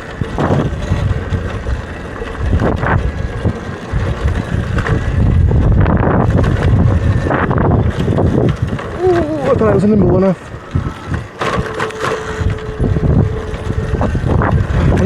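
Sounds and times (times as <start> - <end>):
bike knocks and rattles: 0.0 - 15.0
electric dirt bike running: 0.0 - 15.0
wind buffeting microphone: 0.0 - 15.0.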